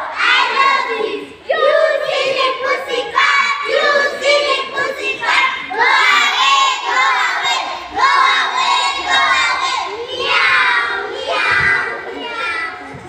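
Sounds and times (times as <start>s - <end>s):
children chanting in unison: 0.0s - 13.0s.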